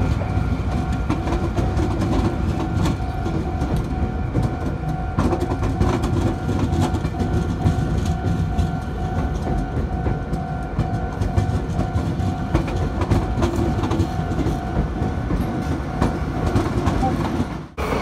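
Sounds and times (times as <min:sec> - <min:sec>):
level crossing warning bell: 0:00.0 - 0:16.9
train wheels rumbling and clicking: 0:00.0 - 0:18.0.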